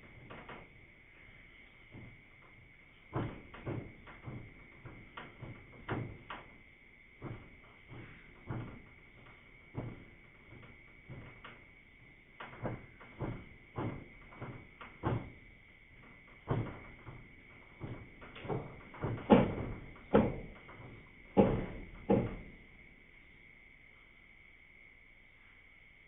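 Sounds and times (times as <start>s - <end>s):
sharp knocks and thuds: 0.0s - 22.9s.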